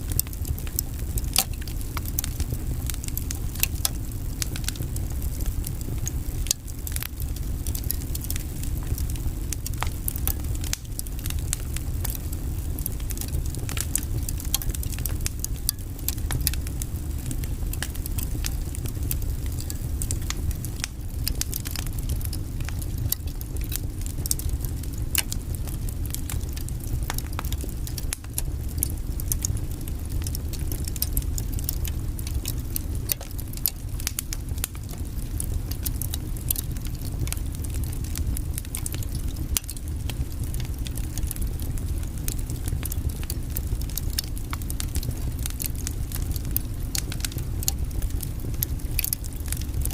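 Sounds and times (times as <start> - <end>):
low fire rumble: 0.0 - 49.9
logs crackling: 0.1 - 49.9.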